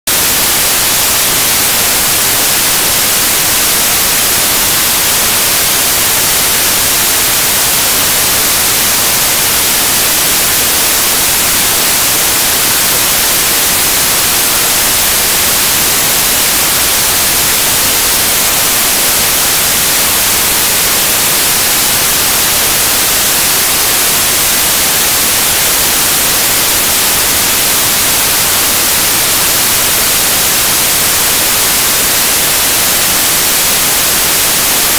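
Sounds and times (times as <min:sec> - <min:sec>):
static hiss: 0:00.1 - 0:34.9.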